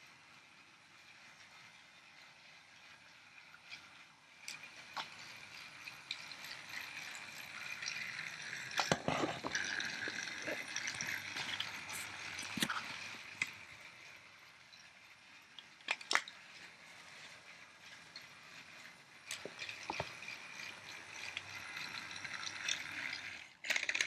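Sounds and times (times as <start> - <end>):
clicks and clacks of toy track: 0.0 - 24.0
toy train motor whining: 0.0 - 24.0.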